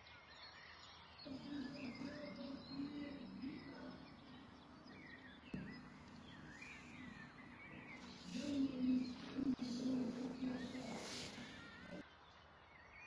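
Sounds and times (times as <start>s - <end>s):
small birds chirping: 1.3s - 12.0s.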